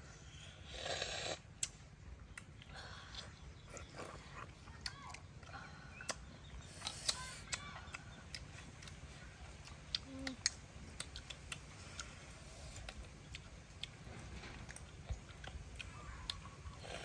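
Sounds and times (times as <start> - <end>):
faint chewing: 0.8 - 17.0.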